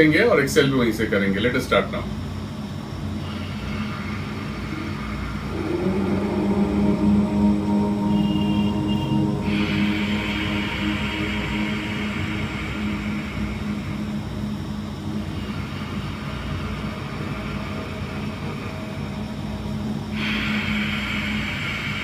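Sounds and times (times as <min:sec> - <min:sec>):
slow hissing breaths: 0:02.1 - 0:22.0.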